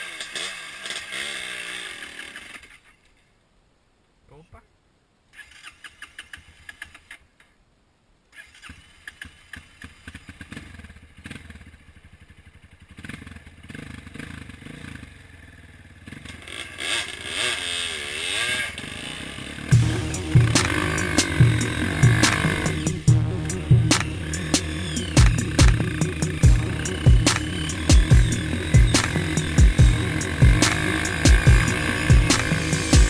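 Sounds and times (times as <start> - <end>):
motorcycle engine revving: 0.0 - 2.8, 8.6 - 33.0.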